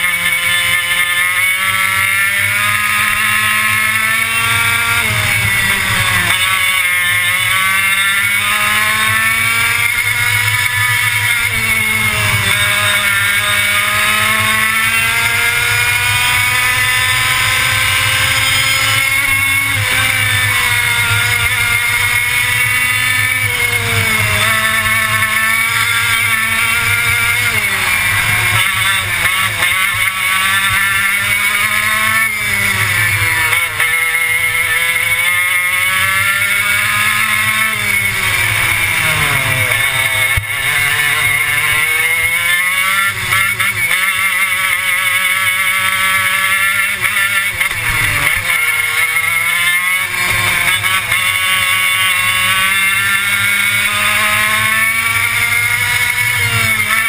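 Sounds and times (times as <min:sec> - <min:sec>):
racing kart engine revving: 0:00.0 - 0:57.0.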